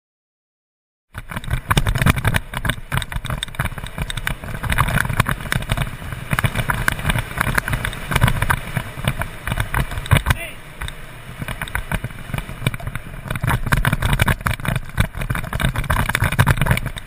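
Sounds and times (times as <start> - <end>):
knocks and rattles: 1.1 - 17.0.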